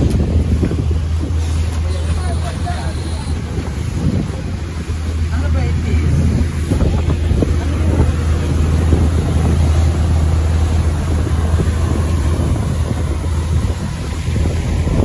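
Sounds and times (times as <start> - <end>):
boat engines rumbling: 0.0 - 15.0
rushing water from wake: 0.0 - 15.0.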